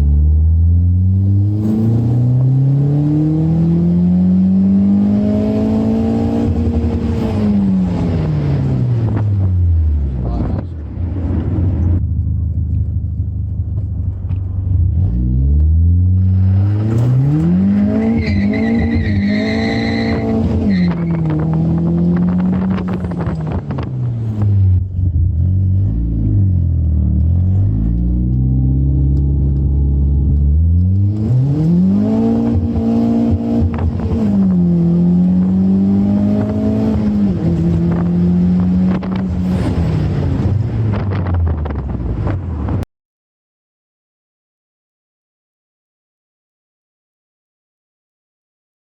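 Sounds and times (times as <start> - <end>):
car engine revving: 0.0 - 42.8.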